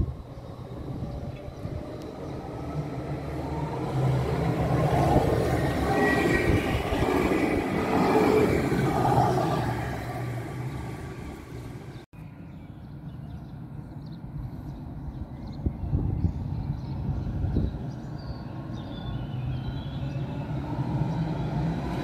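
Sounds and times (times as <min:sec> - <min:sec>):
tram passing on rails: 0:00.0 - 0:22.0.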